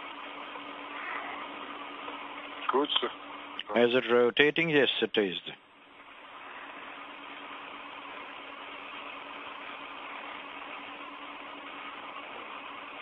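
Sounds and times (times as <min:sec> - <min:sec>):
radio channel hiss: 0:00.0 - 0:13.0.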